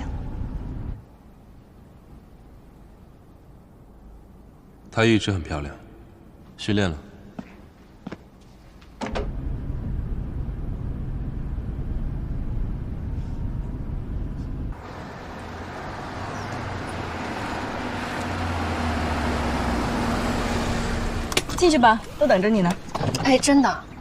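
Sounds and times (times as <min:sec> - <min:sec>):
car engine and road rumble: 0:00.0 - 0:04.7, 0:08.9 - 0:24.0
road and traffic hiss: 0:00.0 - 0:23.9.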